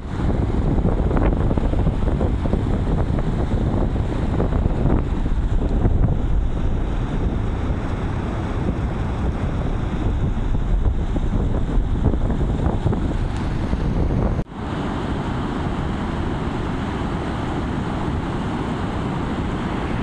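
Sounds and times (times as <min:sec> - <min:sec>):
surf: 0:00.0 - 0:20.0
wind buffeting microphone: 0:00.0 - 0:20.0.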